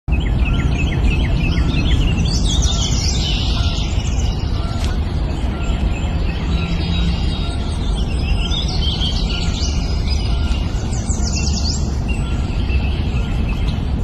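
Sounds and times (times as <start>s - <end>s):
songbirds chirping: 0.1s - 14.0s
steady low rumble: 0.1s - 14.0s.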